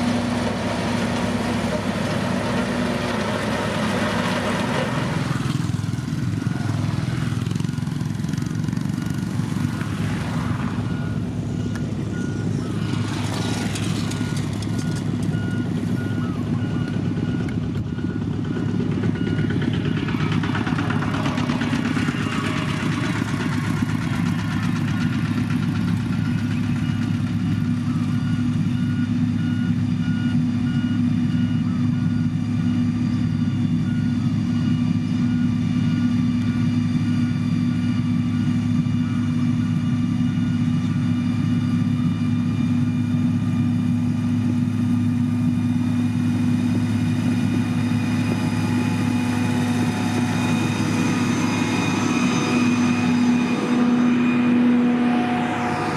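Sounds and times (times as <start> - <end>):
heavy machine engine running: 0.0 - 55.9
reversing alarm beeps: 10.8 - 55.9.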